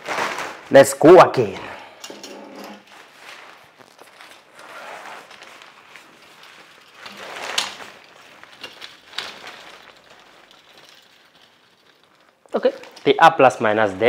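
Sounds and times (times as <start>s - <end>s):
fabric rustling: 0.0s - 0.7s, 1.3s - 14.0s.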